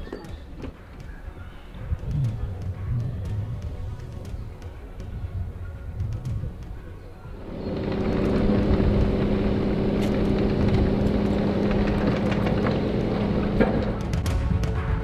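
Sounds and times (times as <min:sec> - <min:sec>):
vehicle engine humming: 0:01.8 - 0:14.8.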